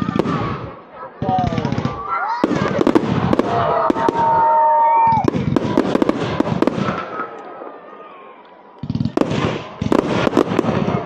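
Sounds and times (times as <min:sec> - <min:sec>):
whistling fireworks: 0:00.0 - 0:07.4, 0:08.8 - 0:11.0
firework bangs and crackling: 0:00.0 - 0:07.5, 0:08.8 - 0:11.0.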